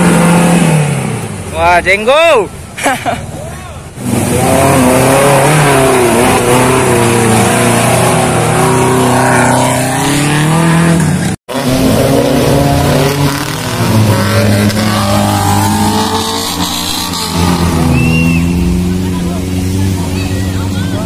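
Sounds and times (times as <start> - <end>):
off-road vehicle engine revving: 0.0 - 2.1, 2.8 - 21.0.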